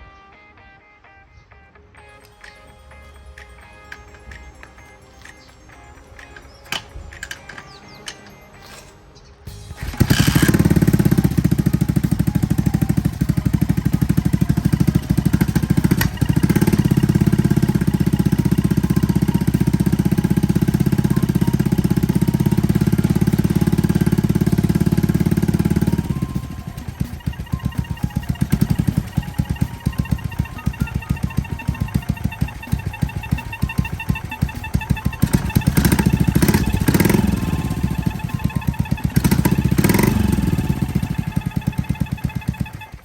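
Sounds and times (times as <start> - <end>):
motorcycle engine popping beat: 3.3 - 8.4, 9.5 - 43.0.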